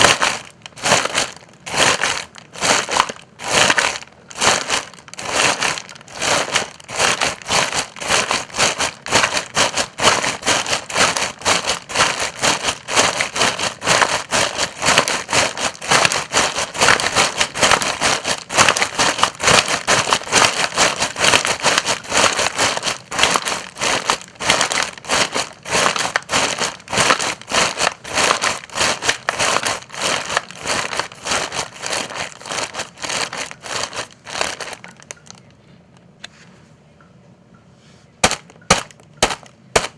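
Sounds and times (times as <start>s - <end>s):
footsteps on dry leaves: 0.0s - 35.0s.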